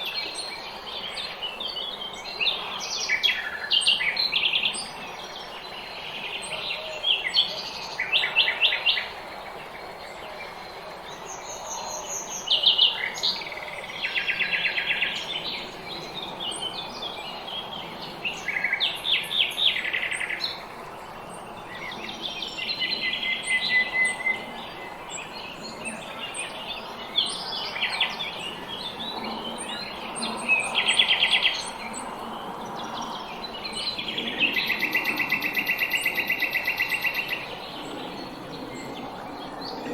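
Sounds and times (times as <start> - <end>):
songbirds trilling chirps: 0.0 - 39.9.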